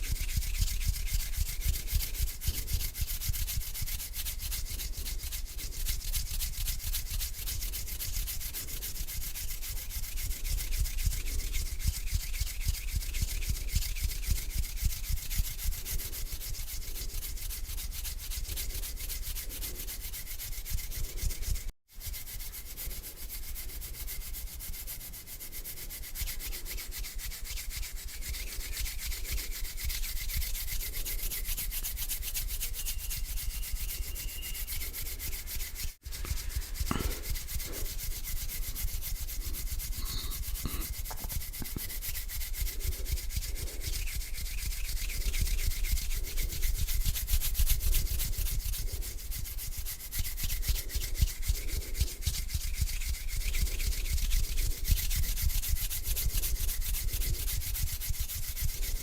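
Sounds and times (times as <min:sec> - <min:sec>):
hands rubbing together: 0:00.0 - 0:59.0.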